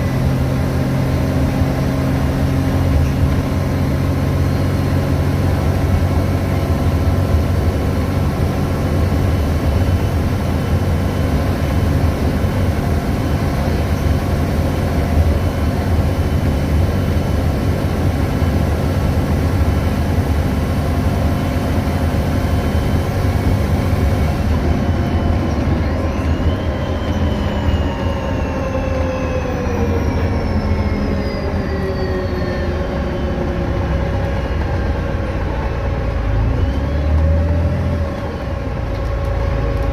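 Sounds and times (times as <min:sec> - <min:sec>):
bus engine rumble: 0:00.0 - 0:39.9
whine falling in pitch: 0:07.4 - 0:39.9.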